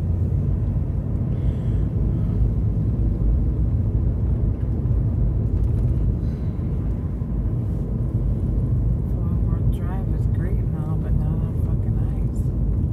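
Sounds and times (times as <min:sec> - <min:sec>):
vehicle engine and tyres rumbling: 0:00.0 - 0:12.9.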